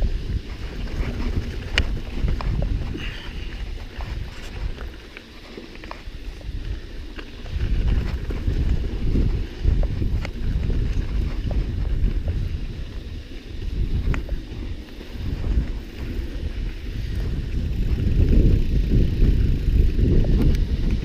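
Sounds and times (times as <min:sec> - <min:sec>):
bike tyres rolling on dirt: 0:00.0 - 0:21.0
wind buffeting microphone: 0:00.0 - 0:21.0.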